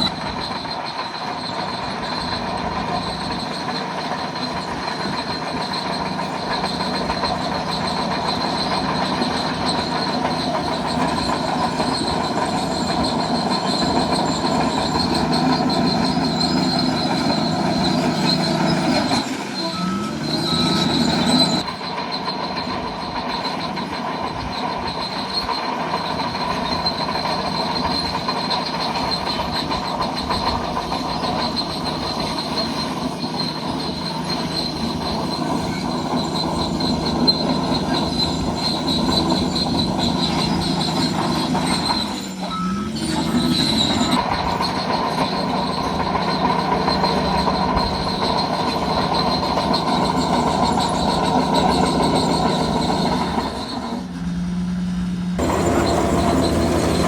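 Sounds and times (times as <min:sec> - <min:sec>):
bulldozer running under load: 0:00.0 - 0:57.0
steel tracks squealing and grinding: 0:00.0 - 0:57.0.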